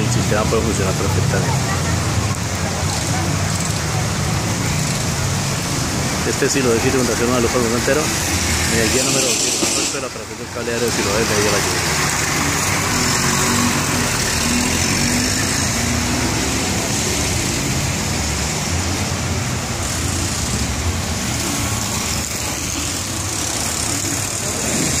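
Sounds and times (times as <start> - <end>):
traffic on wet road: 0.0 - 25.0.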